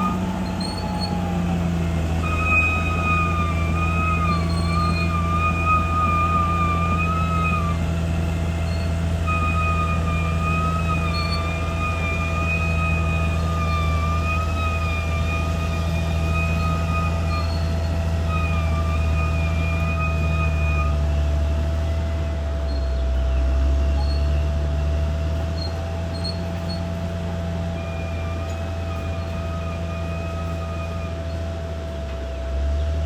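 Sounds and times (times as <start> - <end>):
high wavering squeal: 0.0 - 32.1
bulldozer diesel drone: 0.0 - 33.0.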